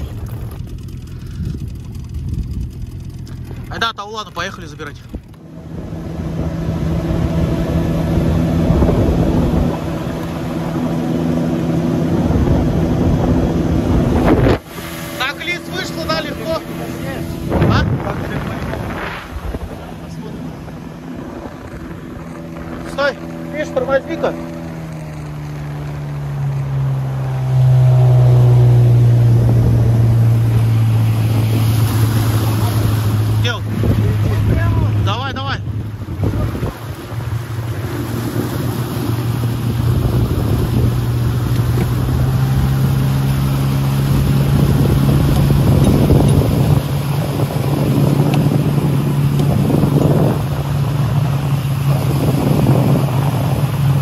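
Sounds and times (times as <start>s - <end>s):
motorboat engine: 0.0s - 54.0s
rushing water noise: 3.0s - 54.0s.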